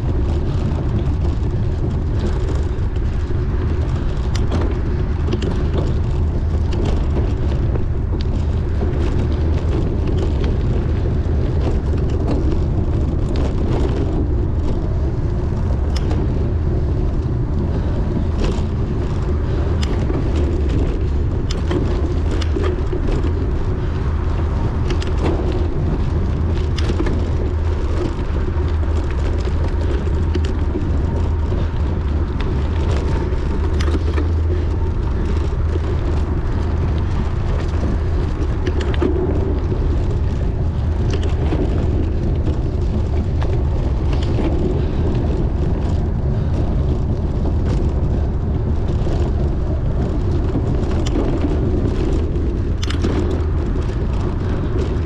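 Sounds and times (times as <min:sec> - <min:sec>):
bike clicks and rattles: 0:00.0 - 0:55.0
wind rushing over microphone: 0:00.0 - 0:55.0.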